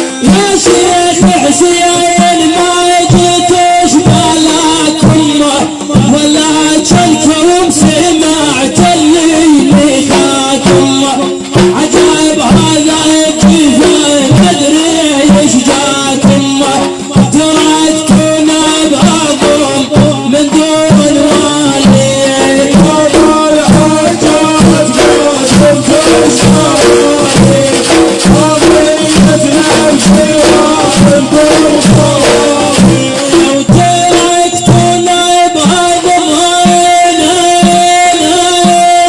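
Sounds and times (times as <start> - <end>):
instrumental music with drum beat: 0.0 - 39.0.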